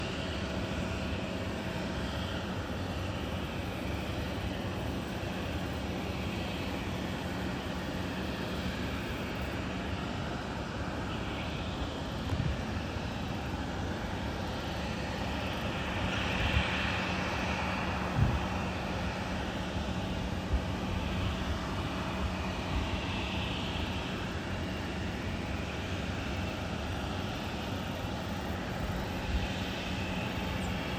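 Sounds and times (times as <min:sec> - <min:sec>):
distant jet engines: 0:00.0 - 0:30.9.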